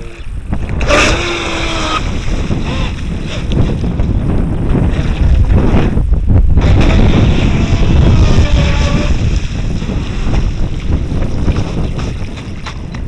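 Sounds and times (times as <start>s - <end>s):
faint electric motor whine: 0.0s - 11.4s
wind buffeting microphone: 0.0s - 13.0s.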